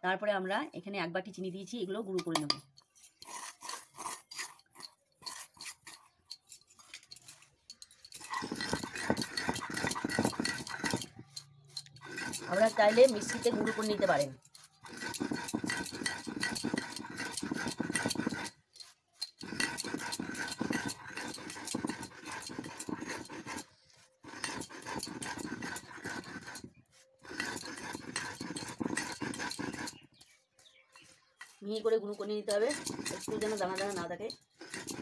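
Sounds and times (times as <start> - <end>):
stone roller crushing sugar: 1.5 - 35.0.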